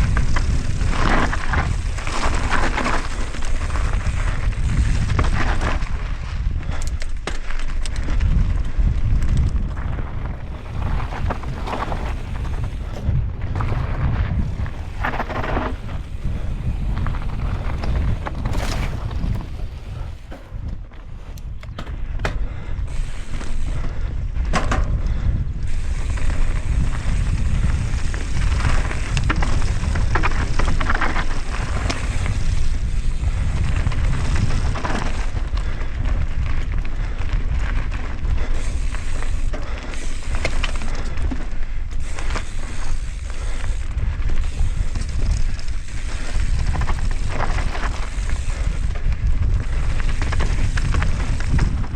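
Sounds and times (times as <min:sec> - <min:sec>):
bike rattles and knocks: 0:00.0 - 0:51.9
bike tyre noise: 0:00.0 - 0:51.9
wind buffeting microphone: 0:00.0 - 0:51.9.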